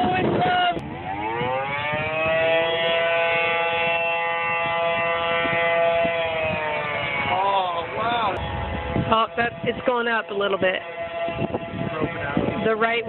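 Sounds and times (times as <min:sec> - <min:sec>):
warning siren winding up: 0:00.0 - 0:13.0.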